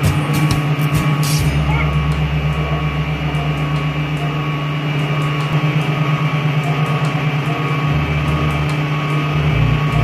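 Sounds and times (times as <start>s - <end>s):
background music with held notes: 0.0s - 10.0s
bass line: 0.0s - 10.0s.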